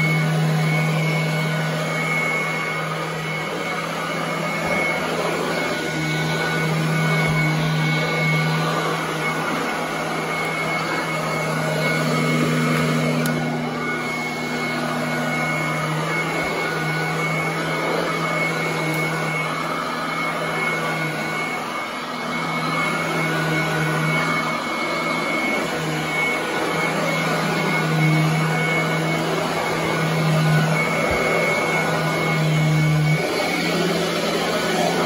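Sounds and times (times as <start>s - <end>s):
vacuum cleaner running on carpet: 0.0s - 35.0s.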